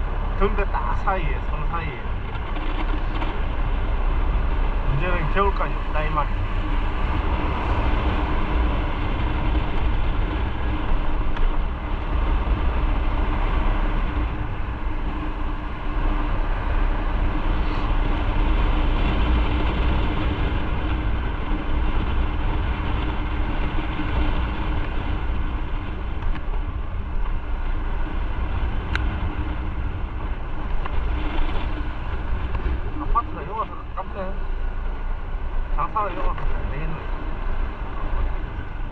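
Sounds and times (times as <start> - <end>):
low wind rumble: 0.0 - 38.9
motorcycle engine hum: 0.0 - 38.9.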